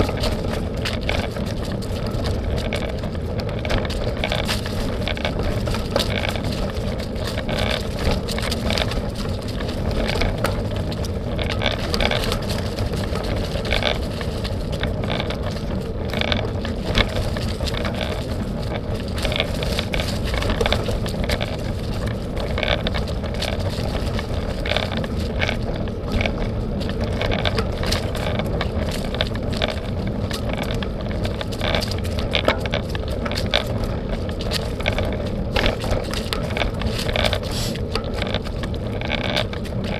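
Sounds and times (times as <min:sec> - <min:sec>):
bicycle rattles and knocks: 0:00.0 - 0:39.9
bicycle rumbling on dirt trail: 0:00.0 - 0:39.9.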